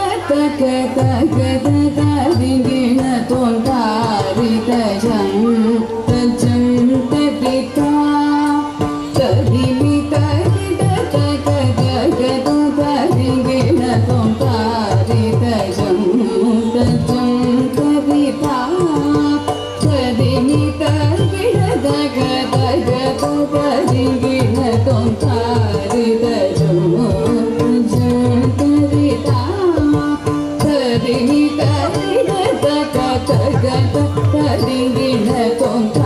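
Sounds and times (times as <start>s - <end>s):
hand drum beats: 0.0s - 36.0s
person singing: 0.0s - 36.0s.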